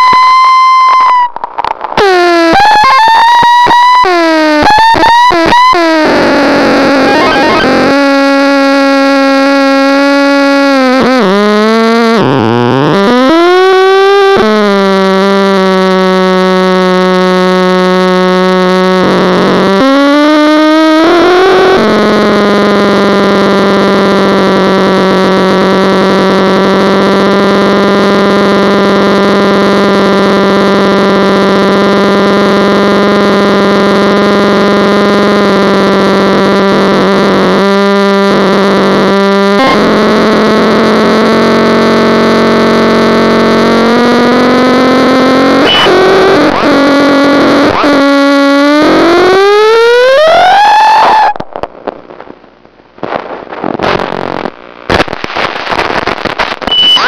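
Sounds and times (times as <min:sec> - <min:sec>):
loud buzzing tone: 0:00.0 - 0:52.0, 0:53.6 - 0:57.0.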